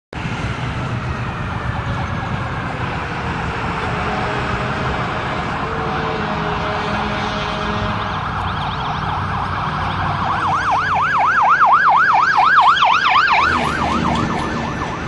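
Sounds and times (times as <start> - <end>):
loud steady rumbling: 0.1 - 15.0
emergency vehicle siren: 0.2 - 15.0.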